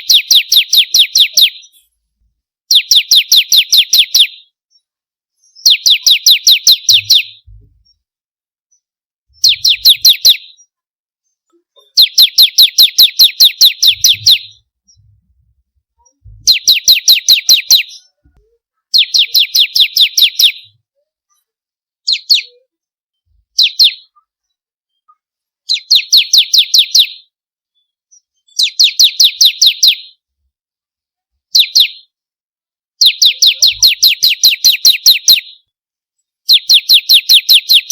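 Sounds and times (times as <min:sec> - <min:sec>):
bird chirping: 0:00.0 - 0:02.0, 0:02.7 - 0:08.1, 0:08.7 - 0:21.4, 0:22.0 - 0:30.2, 0:31.5 - 0:32.2, 0:33.0 - 0:35.7, 0:36.5 - 0:37.9.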